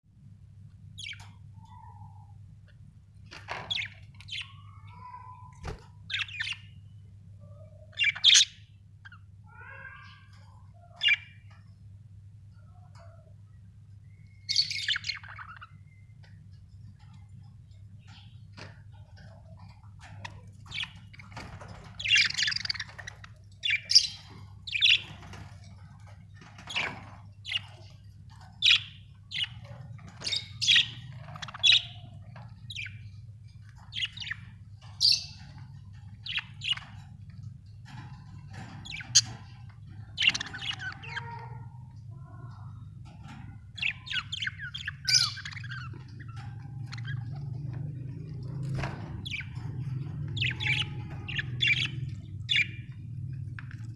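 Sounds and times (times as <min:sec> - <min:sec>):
budgerigars chirping and squawking: 0:00.9 - 0:11.8, 0:12.5 - 0:53.9
steady low hum: 0:10.2 - 0:53.9.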